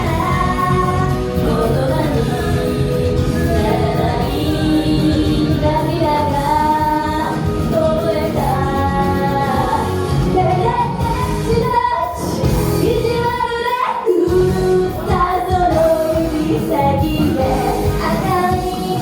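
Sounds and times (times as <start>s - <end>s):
female group singing: 0.0s - 19.0s
pop backing track with beat: 0.0s - 19.0s.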